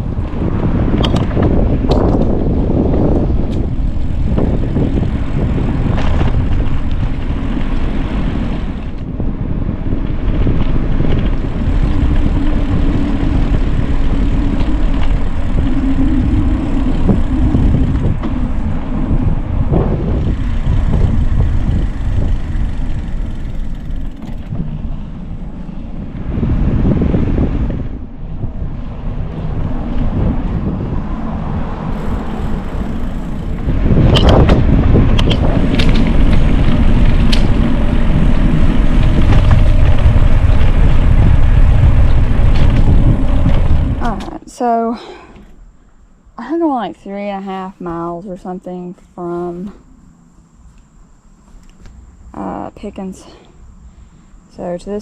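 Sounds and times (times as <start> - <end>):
wind buffeting microphone: 0.0 - 45.7.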